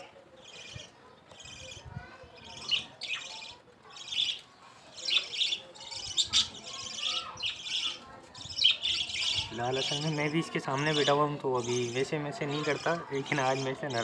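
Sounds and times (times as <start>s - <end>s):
birds chirping high calls: 0.0s - 14.0s.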